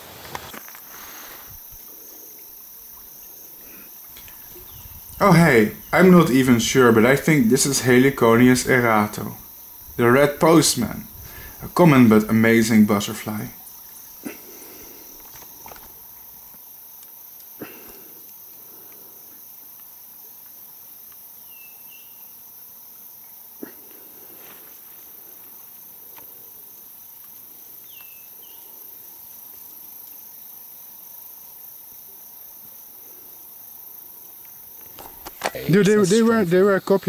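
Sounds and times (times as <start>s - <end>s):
insect chorus: 0.0s - 37.0s.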